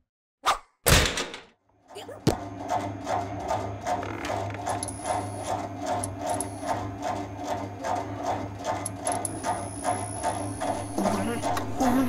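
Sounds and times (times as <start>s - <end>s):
mechanical pulse: 2.0s - 12.0s.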